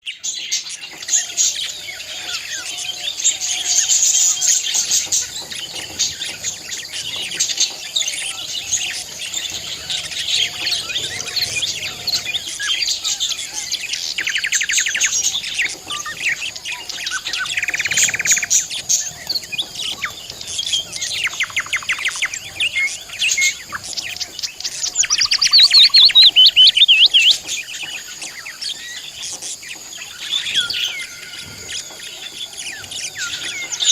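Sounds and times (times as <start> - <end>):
budgerigars chirping and warbling: 0.1 - 33.9.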